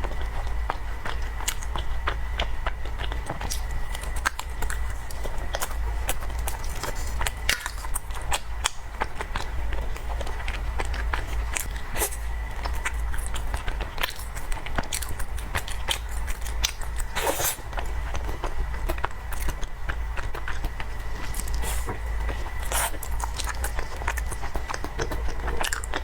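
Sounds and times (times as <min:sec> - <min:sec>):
steady low hum: 0:00.0 - 0:26.0
wet chewing and lip smacks: 0:00.0 - 0:26.0.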